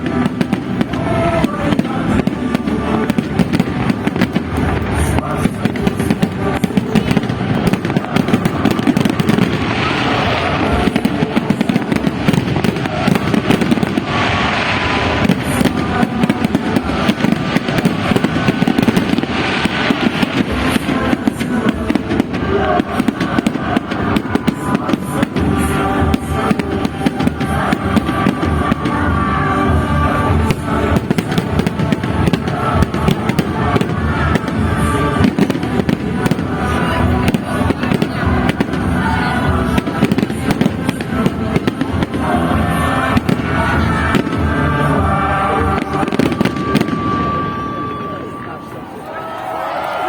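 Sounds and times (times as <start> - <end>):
fireworks bangs and crackles: 0.0 - 50.0
music playing: 0.0 - 50.0.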